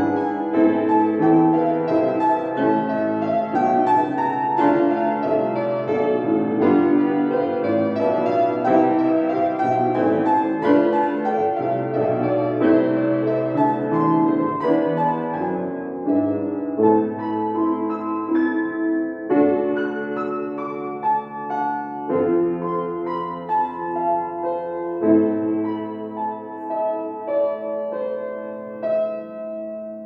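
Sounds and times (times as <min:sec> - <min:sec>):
solo classical piano: 0:00.0 - 0:30.0.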